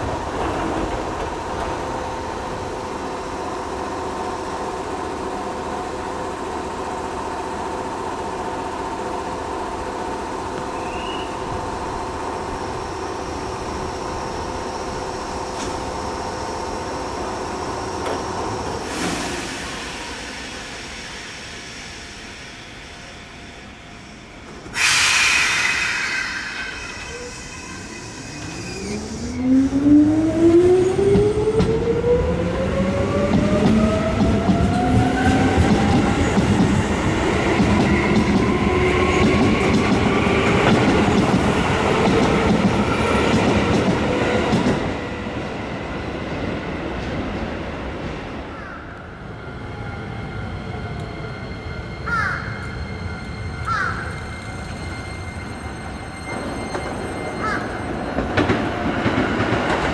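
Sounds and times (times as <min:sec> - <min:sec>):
wheels rumbling on rail: 0:00.0 - 0:23.6, 0:24.4 - 0:59.9.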